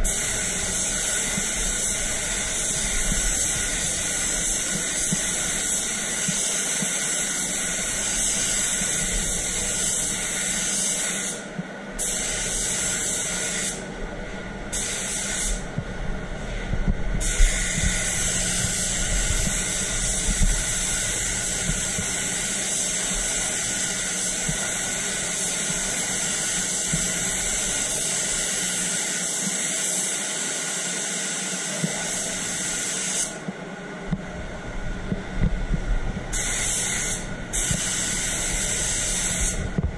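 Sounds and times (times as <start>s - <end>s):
spray gun hissing: 0.0s - 13.9s, 14.7s - 15.7s, 16.4s - 33.4s, 36.3s - 39.8s.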